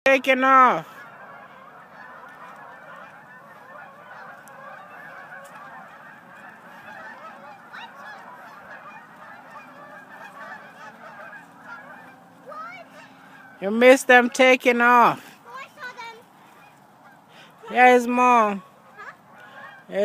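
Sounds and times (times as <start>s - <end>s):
flock of geese honking: 0.1s - 20.0s.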